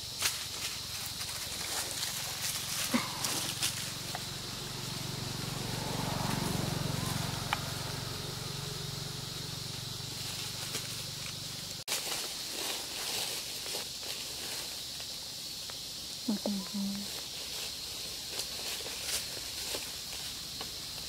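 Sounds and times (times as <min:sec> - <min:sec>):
dry leaves crackling: 0:00.0 - 0:15.8, 0:16.7 - 0:21.0
steady high hiss: 0:00.0 - 0:21.0.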